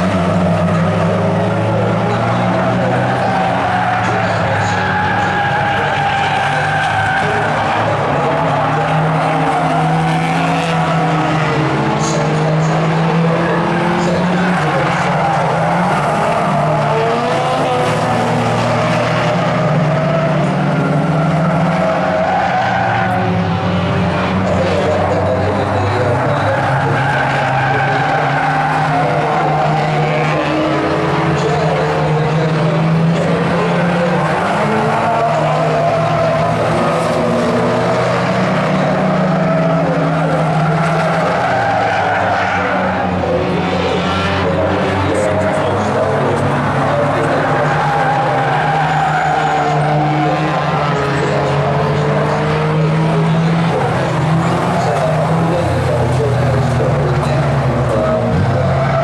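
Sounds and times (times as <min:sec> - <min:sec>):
race car engines running hard: 0:00.0 - 0:59.0.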